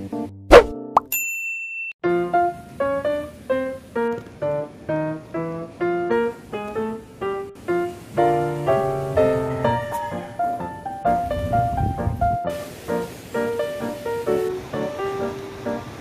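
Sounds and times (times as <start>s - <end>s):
light piano melody: 2.0s - 16.0s.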